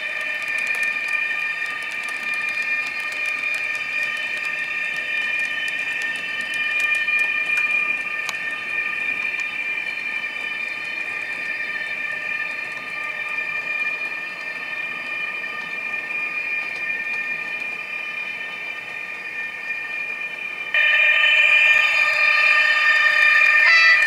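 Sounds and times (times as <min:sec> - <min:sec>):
model locomotive electric whine: 0:00.0 - 0:24.0.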